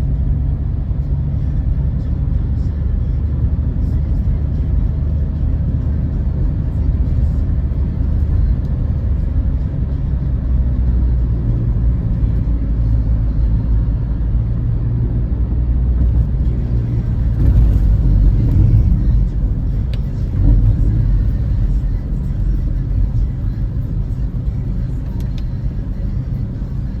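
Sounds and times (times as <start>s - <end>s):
road and engine rumble in car: 0.0s - 27.0s.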